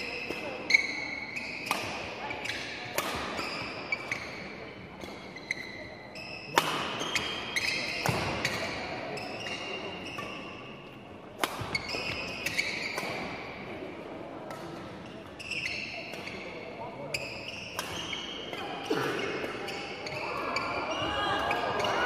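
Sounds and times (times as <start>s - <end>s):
racket hitting shuttlecock: 0.0s - 5.8s, 6.5s - 13.7s, 14.4s - 16.4s, 17.2s - 21.9s
shoes squeaking on gym floor: 0.0s - 10.6s, 11.6s - 13.5s, 15.0s - 16.5s, 17.1s - 18.6s, 19.2s - 22.0s.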